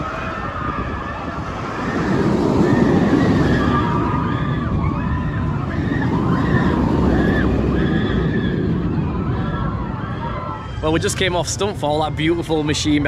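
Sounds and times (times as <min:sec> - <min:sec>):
roller coaster rushing rumble: 0:00.0 - 0:13.0.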